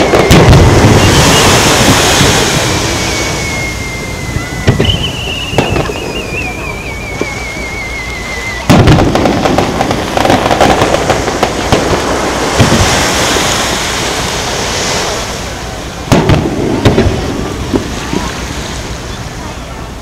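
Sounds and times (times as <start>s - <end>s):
firework bangs: 0.0s - 19.7s
firework whistle: 0.0s - 19.8s
firework crackling: 0.0s - 20.0s.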